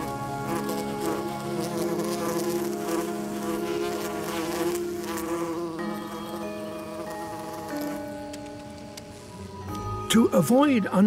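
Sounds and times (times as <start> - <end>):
wasp wings buzzing: 0.0 - 9.5.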